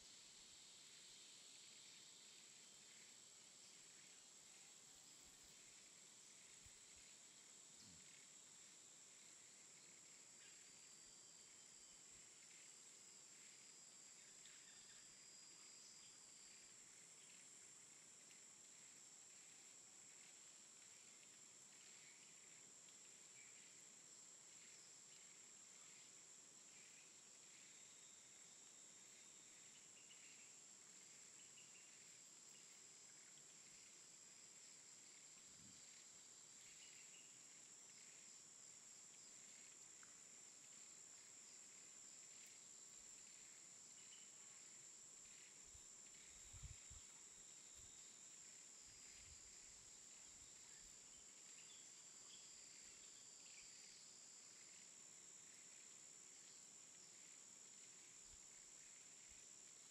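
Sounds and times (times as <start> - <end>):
faint high-pitched hiss: 0.0 - 59.9.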